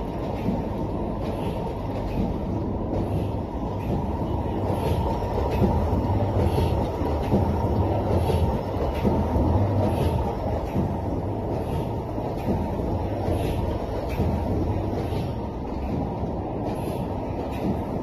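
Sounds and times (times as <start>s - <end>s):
printing machine mechanical rumble: 0.0s - 18.0s.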